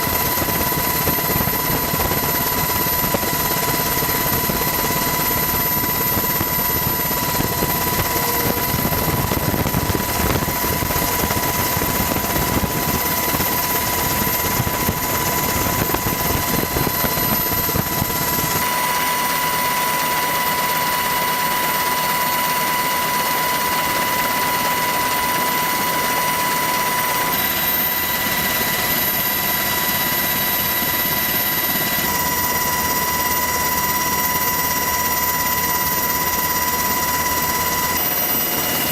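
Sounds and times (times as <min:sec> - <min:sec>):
high steady whine: 0:00.0 - 0:38.9.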